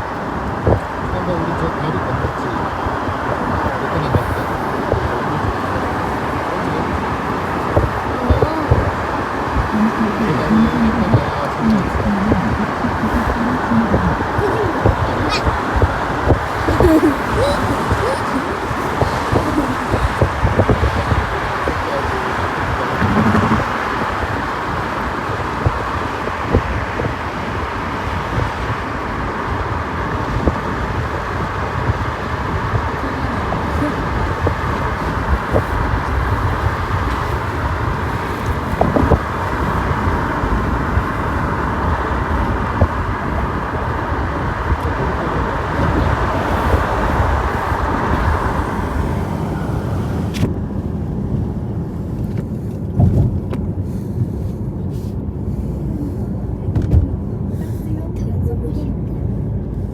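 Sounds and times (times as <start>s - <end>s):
faint voices: 0.0s - 50.5s
car road and engine noise: 0.0s - 59.9s.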